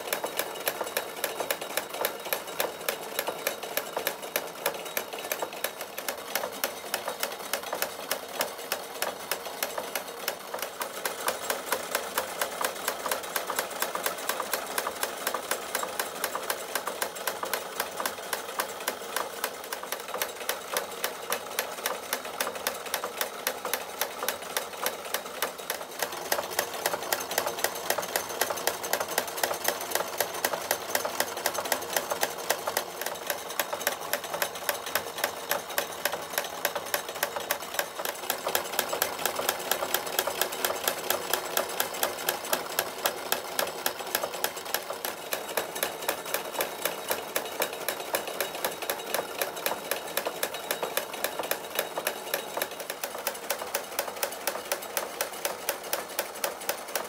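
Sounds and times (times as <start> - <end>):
toy steam engine clicking rattle: 0.0 - 57.0.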